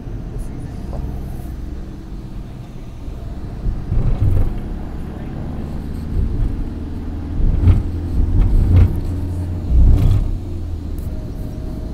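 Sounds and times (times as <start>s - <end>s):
engine and tyre rumble: 0.0s - 11.9s.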